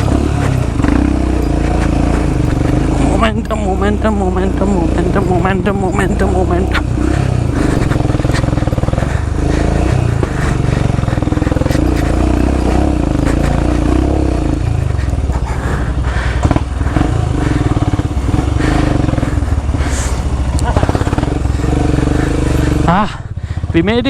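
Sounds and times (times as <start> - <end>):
scattered knocks: 0.0 - 22.9
motorcycle engine under load: 0.0 - 24.0.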